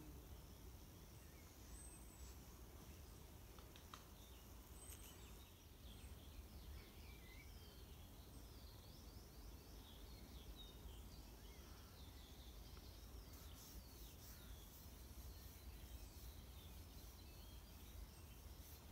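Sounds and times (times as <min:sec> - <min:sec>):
faint bird chirps: 0:00.0 - 0:18.9.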